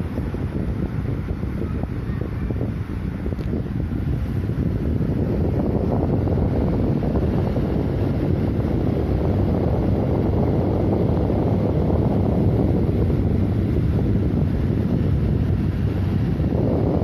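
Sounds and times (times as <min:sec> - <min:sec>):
box fan running: 0:00.0 - 0:17.0.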